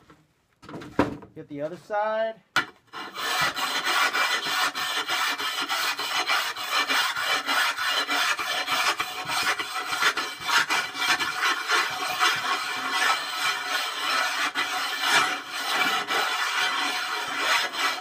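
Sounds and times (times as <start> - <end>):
abrasive tool scraping shelf: 2.6 - 18.0.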